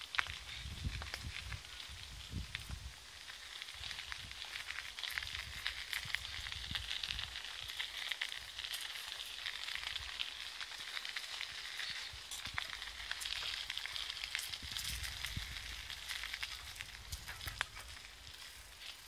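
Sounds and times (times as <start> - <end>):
bicycle tyres on dirt path: 0.0 - 19.0.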